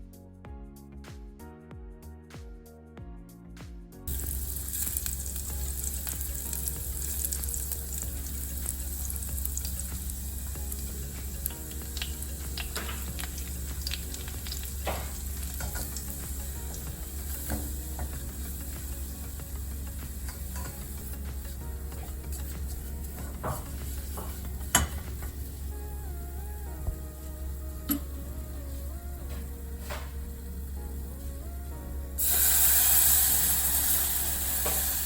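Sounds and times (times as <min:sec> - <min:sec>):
soft background music: 0:00.0 - 0:35.0
food sizzling in a pan: 0:04.1 - 0:31.4, 0:32.2 - 0:35.0.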